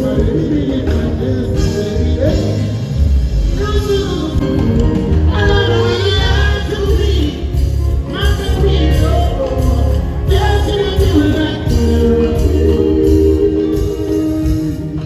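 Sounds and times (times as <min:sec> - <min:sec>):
heavy bass: 0:00.0 - 0:15.0
live band music: 0:00.0 - 0:15.0.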